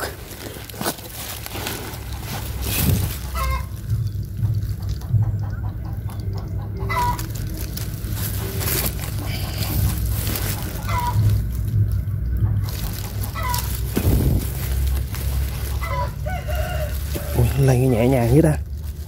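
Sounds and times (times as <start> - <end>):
chickens clucking: 0.0 - 19.0
steady low rumble: 0.0 - 19.0.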